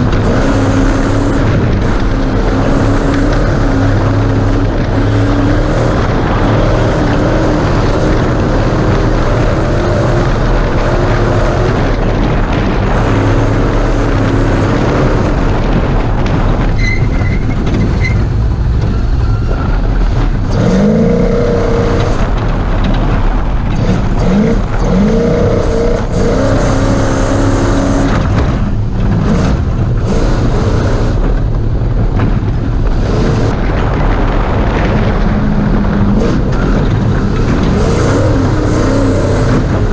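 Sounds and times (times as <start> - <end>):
loud rushing noise: 0.0 - 39.9
race truck engine revving: 0.0 - 39.9.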